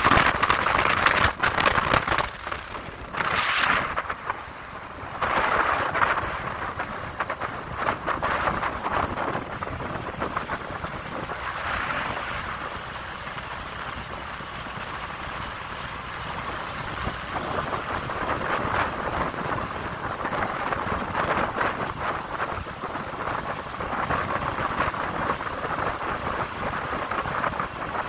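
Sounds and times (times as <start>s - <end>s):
road noise: 0.0s - 28.0s
wind rushing over microphone: 0.0s - 28.0s.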